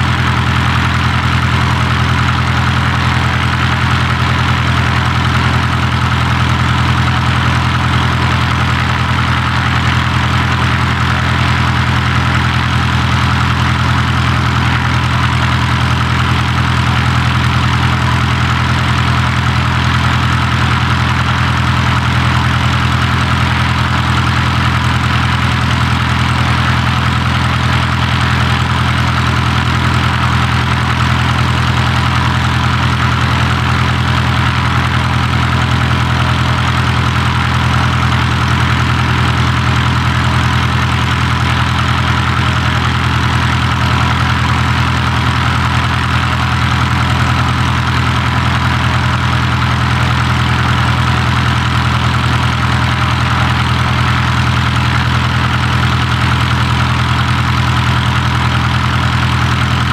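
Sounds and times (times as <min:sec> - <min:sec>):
light aircraft engine idling: 0:00.0 - 0:59.9.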